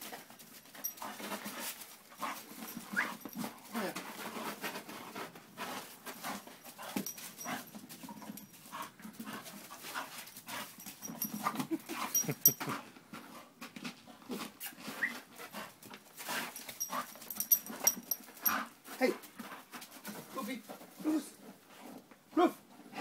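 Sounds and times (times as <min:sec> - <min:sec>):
paws and ball scraping ground: 0:00.1 - 0:22.2
dog noises and breathing: 0:00.2 - 0:23.0.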